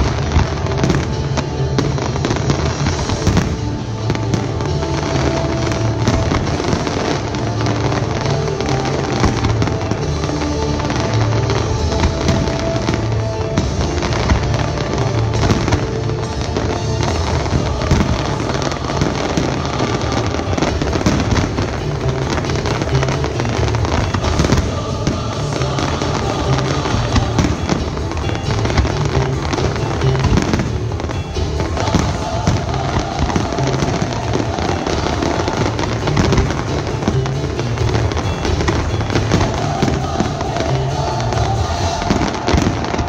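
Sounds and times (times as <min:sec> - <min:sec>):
music playing: 0:00.0 - 0:43.0.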